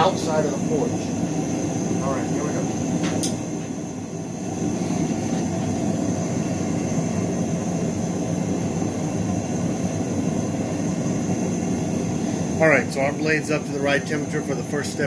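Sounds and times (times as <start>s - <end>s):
gas forge burner roaring: 0.0s - 15.0s.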